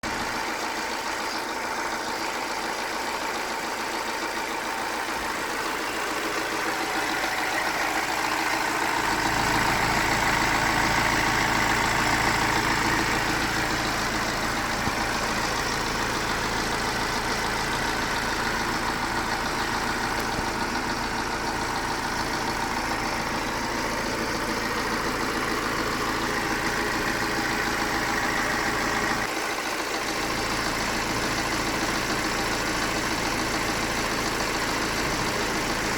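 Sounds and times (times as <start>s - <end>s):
car engine idling with ticking: 0.0s - 35.9s.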